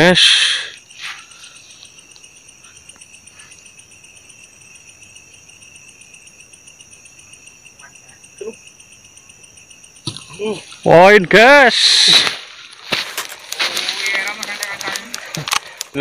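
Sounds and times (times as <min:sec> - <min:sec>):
night insects chirring: 0:00.0 - 0:16.0.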